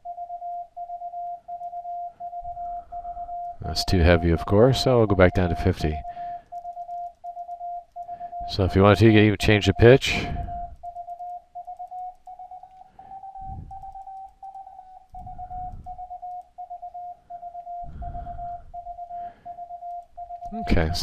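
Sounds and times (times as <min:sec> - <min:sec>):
morse code tone: 0:00.0 - 0:21.0.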